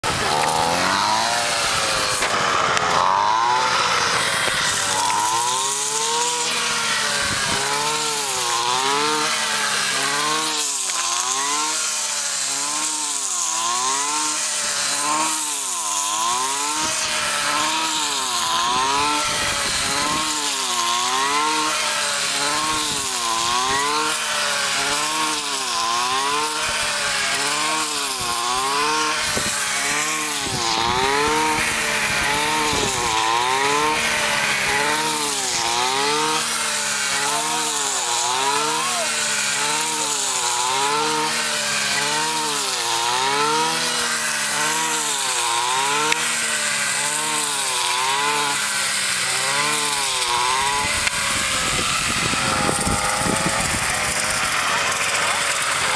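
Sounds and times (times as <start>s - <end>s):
blade cutting rice stalks: 0.0s - 55.9s
brush cutter engine running: 0.0s - 55.9s.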